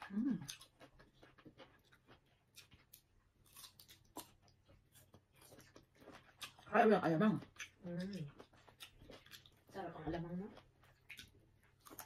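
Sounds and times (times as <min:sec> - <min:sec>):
chewing and biting mango: 0:00.0 - 0:12.0.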